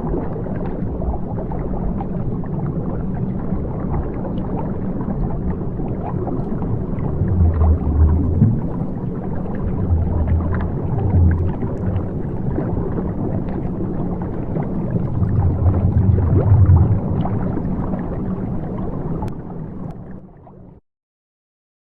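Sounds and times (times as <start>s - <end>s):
water bubbling and gurgling: 0.0s - 20.8s.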